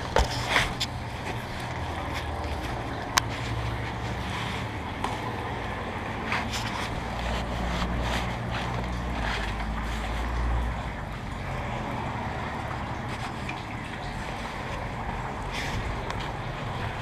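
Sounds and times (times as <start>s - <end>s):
towel rubbing bicycle frame: 0.0s - 11.1s, 12.2s - 17.0s
handling and wind rumble: 0.0s - 17.0s.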